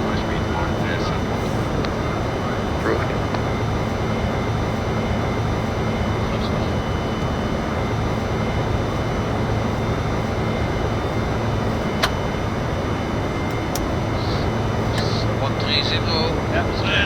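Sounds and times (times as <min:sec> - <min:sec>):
airflow and engine rush: 0:00.0 - 0:17.0
faint steady whine: 0:00.0 - 0:17.0.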